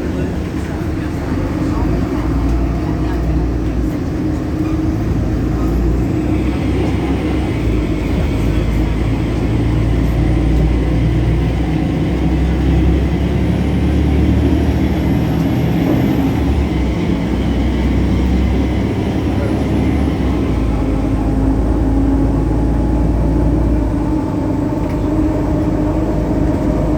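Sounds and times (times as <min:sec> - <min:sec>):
bus diesel engine drone: 0:00.0 - 0:26.9
engine belt noise: 0:00.0 - 0:26.9.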